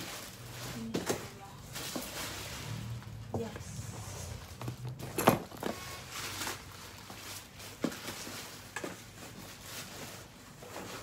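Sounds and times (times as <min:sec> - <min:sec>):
cardboard boxes rustling: 0:00.0 - 0:11.0.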